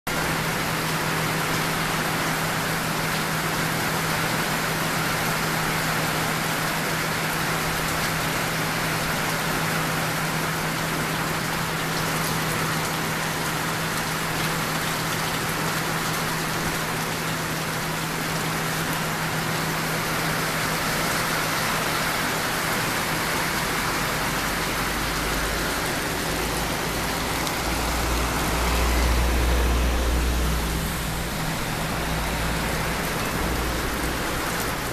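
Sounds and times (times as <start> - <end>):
heavy rain on pavement: 0.1 - 34.9.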